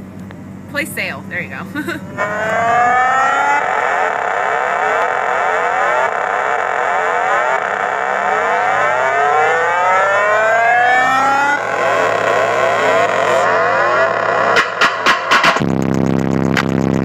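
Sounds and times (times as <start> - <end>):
distorted subwoofer bass buzz: 0.0 - 17.0.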